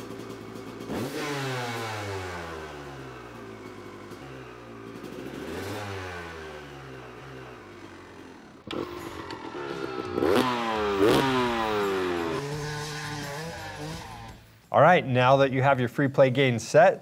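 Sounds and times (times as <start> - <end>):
dirt bike engine revving: 0.0 - 14.4.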